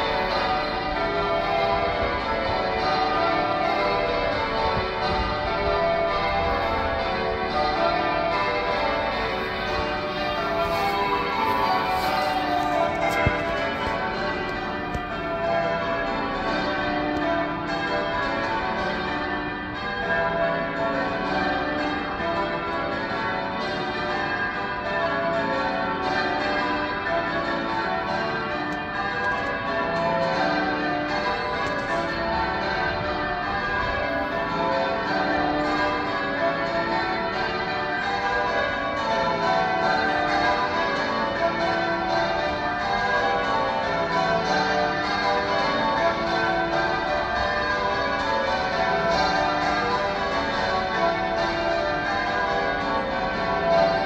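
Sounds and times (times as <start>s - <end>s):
tower bells ringing: 0.0s - 54.0s.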